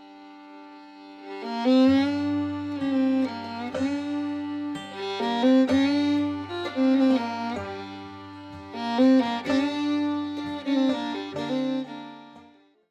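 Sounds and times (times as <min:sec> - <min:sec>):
held-note melody: 0:00.0 - 0:12.6.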